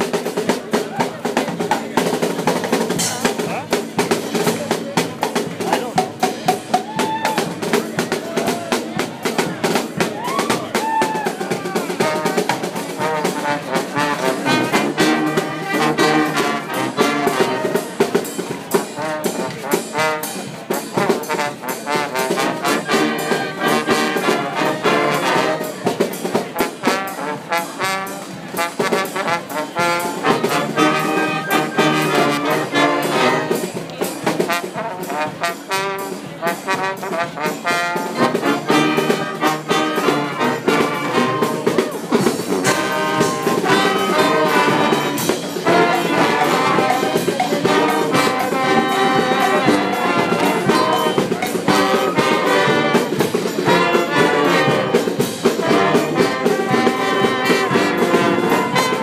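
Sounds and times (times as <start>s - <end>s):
brass marching band playing: 0.0s - 59.0s
snare drum: 0.0s - 59.0s.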